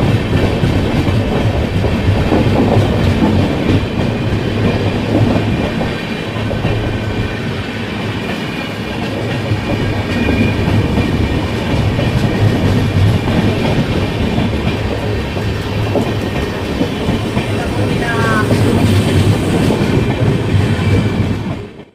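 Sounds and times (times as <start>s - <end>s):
train wheels clattering on rails: 0.0s - 21.9s.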